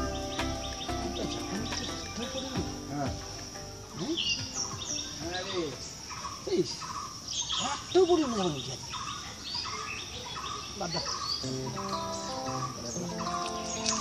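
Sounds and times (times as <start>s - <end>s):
birds chirping: 0.0s - 14.0s
high insect drone: 0.0s - 14.0s
low gliding calls: 0.0s - 14.0s.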